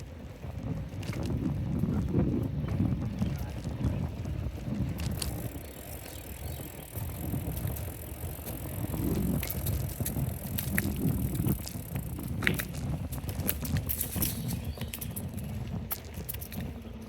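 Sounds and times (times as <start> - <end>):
bicycle riding rumble: 0.0 - 17.0
bike clicks and rattles: 0.0 - 17.0.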